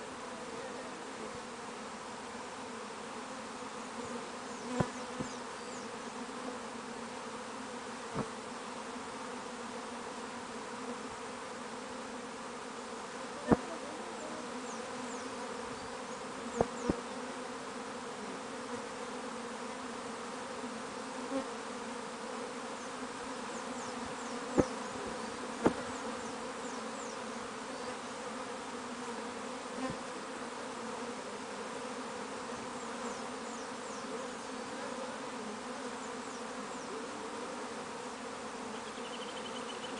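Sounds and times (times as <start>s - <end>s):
bee swarm buzzing: 0.0s - 39.9s.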